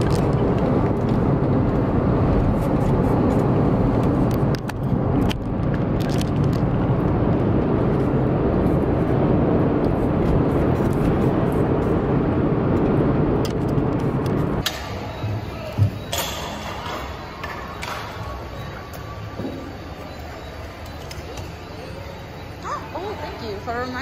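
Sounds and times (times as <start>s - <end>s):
bus road and engine rumble: 0.0s - 23.6s.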